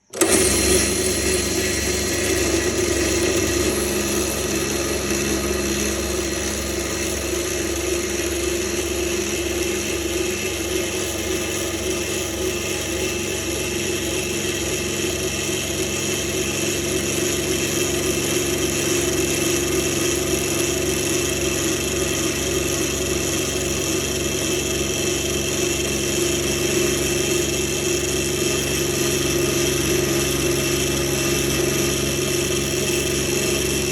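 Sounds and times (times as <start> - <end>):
electric drill motor whining: 0.0 - 33.9.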